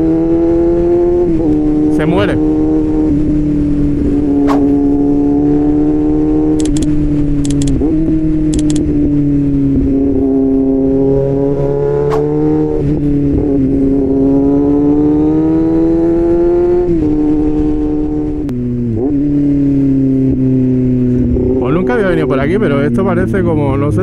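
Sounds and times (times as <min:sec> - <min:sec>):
motorcycle engine at high revs: 0:00.0 - 0:24.0.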